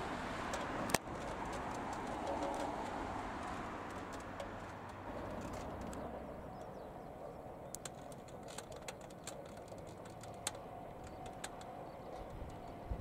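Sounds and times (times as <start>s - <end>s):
distant electric train rumble: 0.0s - 13.0s
light clicks: 0.5s - 6.7s, 7.6s - 12.8s.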